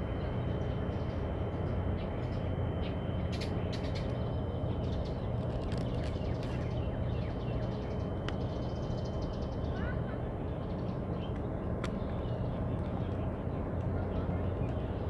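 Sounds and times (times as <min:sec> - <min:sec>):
low outdoor rumble: 0:00.0 - 0:15.0
small birds chirping: 0:00.2 - 0:15.0.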